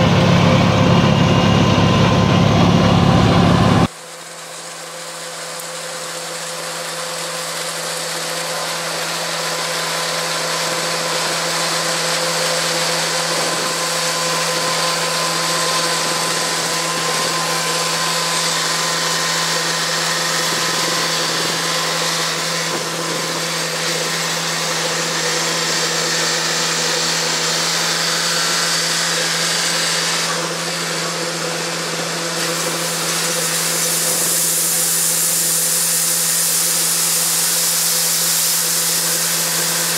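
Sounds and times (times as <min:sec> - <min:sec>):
heavy farm machinery running: 0:00.0 - 0:39.9.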